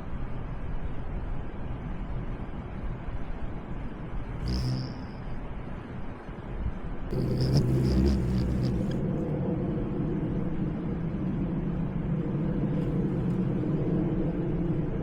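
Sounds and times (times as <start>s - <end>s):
low machinery hum and rumble: 0.0s - 15.0s.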